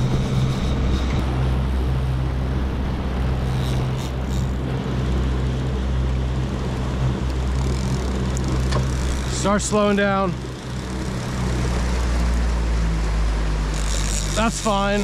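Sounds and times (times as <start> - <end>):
boat engine humming: 0.0 - 15.0
constant rushing noise: 0.0 - 15.0.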